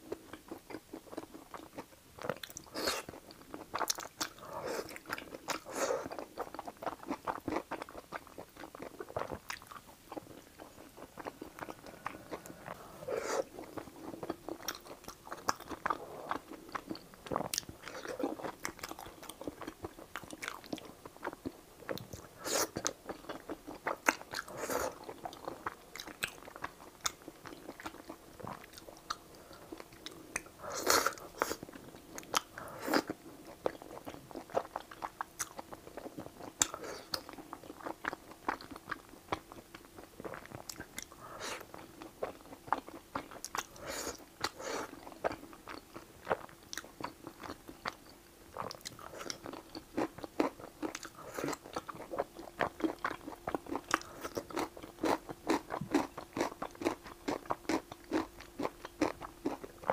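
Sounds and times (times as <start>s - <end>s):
chewing and crunching noodles: 0.0s - 59.9s
faint steady hum: 0.0s - 59.9s.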